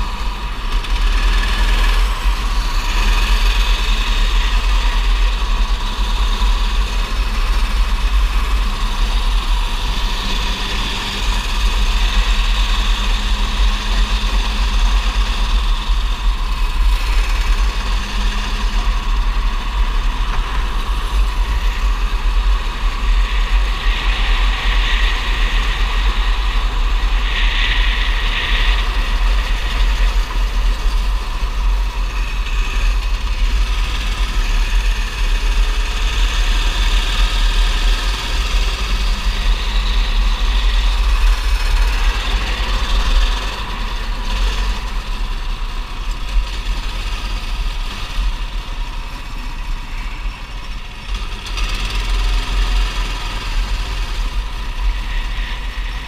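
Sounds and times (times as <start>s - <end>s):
kart engine running hard: 0.0s - 56.0s.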